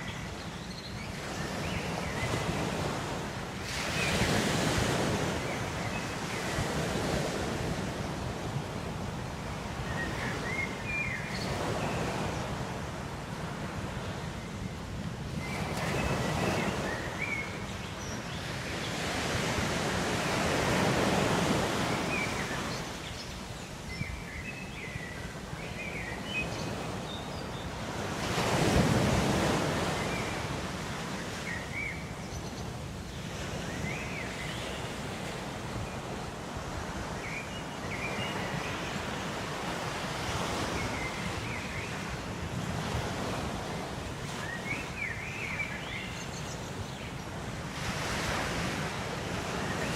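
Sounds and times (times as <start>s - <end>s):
ocean waves on shore: 0.0s - 49.9s.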